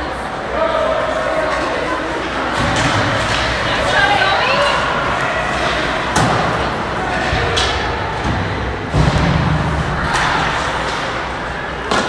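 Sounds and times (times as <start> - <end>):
spectators' voices: 0.0 - 12.0.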